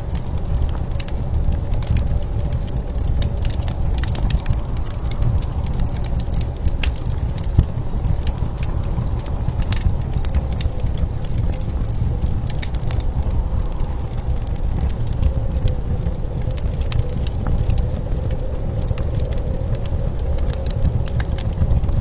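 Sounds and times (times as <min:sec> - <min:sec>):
blizzard wind rumble: 0:00.0 - 0:22.0
wood fire crackling and popping: 0:00.0 - 0:22.0.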